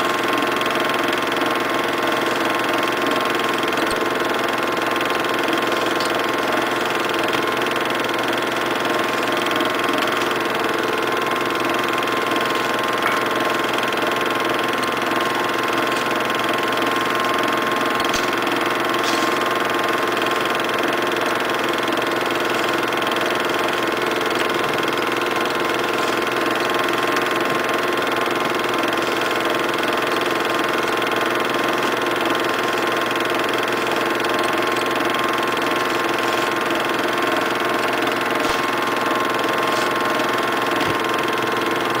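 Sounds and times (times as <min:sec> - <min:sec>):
film projector humming: 0:00.0 - 0:42.0.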